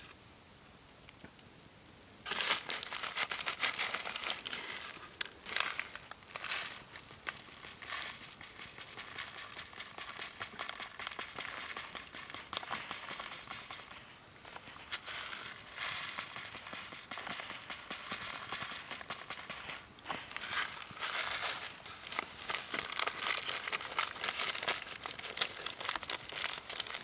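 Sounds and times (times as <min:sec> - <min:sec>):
log fire crackling: 0:02.2 - 0:27.0
paper packet crinkling: 0:02.3 - 0:27.0.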